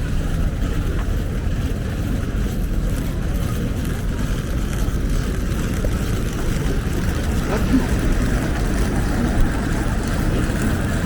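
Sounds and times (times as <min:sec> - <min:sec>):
low rumble of street ambience: 0:00.0 - 0:11.0.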